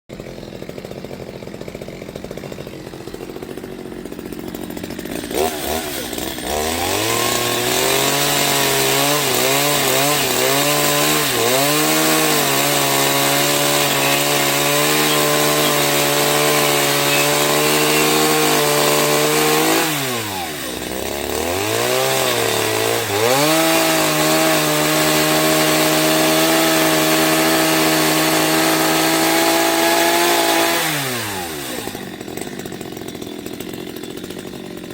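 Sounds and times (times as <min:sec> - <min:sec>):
chainsaw engine revving: 0:00.1 - 0:34.9.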